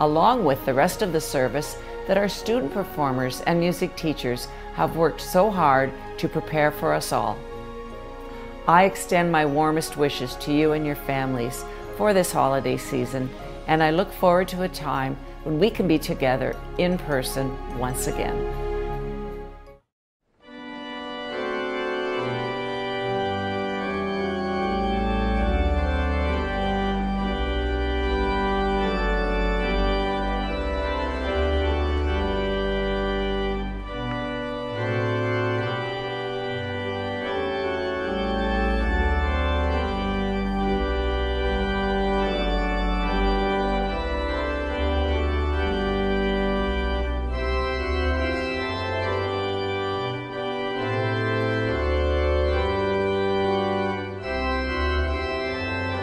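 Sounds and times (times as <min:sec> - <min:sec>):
organ playing chords: 0:00.0 - 0:19.8, 0:20.4 - 0:56.0.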